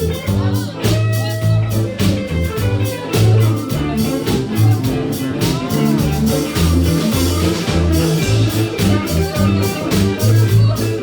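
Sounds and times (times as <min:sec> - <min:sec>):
band playing rock blues: 0:00.0 - 0:11.0
bass line: 0:00.0 - 0:11.0
drum kit beat: 0:00.0 - 0:11.0
electric guitar: 0:00.0 - 0:11.0.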